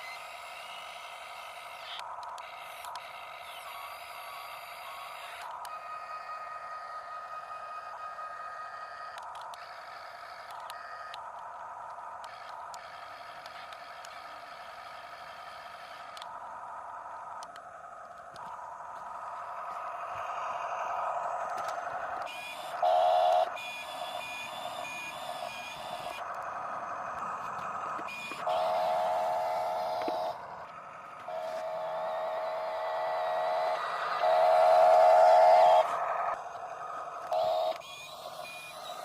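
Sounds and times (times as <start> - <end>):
electric motors whining: 0.0 - 39.0.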